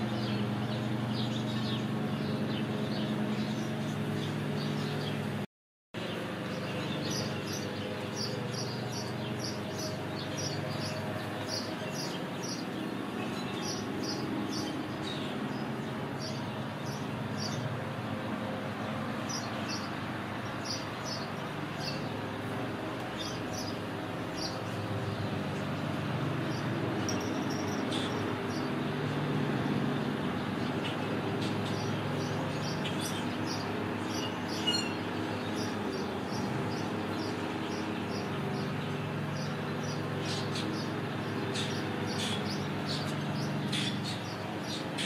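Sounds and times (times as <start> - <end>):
small birds chirping: 0.0 - 5.4, 6.0 - 45.0.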